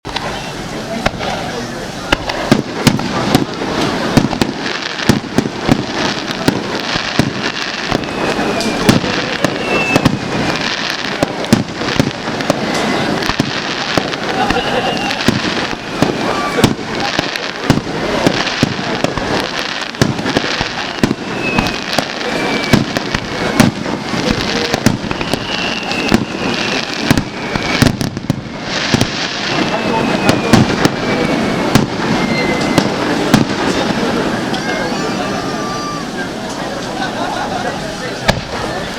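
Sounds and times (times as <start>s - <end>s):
fireworks bursting with sharp bangs: 0.0s - 38.9s
fireworks crackle: 0.1s - 38.9s.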